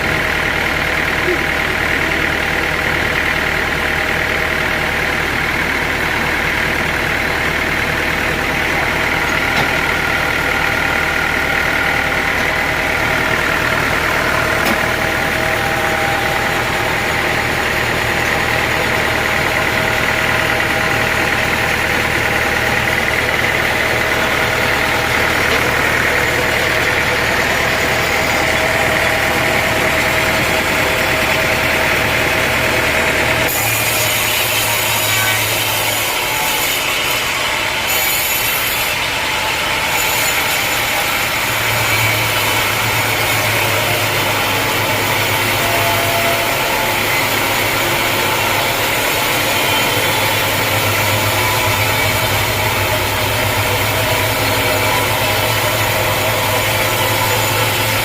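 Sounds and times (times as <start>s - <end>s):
high whine: 0.0s - 33.6s, 40.8s - 58.0s
sawmill machinery hum: 0.0s - 58.0s.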